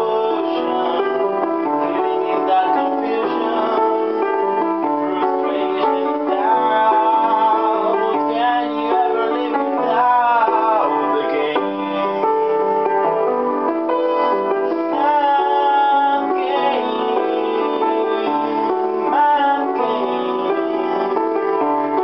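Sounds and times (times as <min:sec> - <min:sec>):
man singing: 0:00.0 - 0:12.6, 0:14.2 - 0:22.0
upright piano playing chords: 0:00.0 - 0:22.0.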